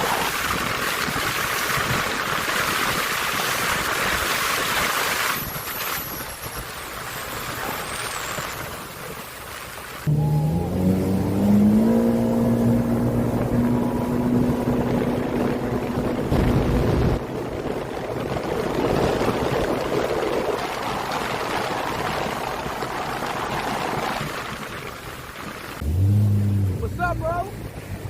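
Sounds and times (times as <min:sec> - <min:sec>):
rushing water-like noise: 0:00.0 - 0:25.8
watercraft engine: 0:00.0 - 0:28.0.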